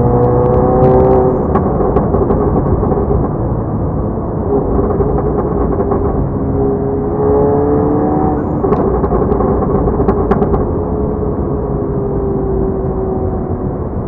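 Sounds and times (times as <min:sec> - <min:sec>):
car engine drone: 0:00.0 - 0:14.0.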